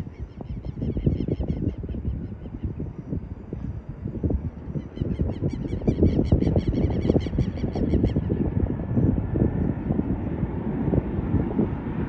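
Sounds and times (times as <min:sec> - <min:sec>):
distant airplane rumble: 0:00.0 - 0:12.0
wind on microphone: 0:00.0 - 0:12.0.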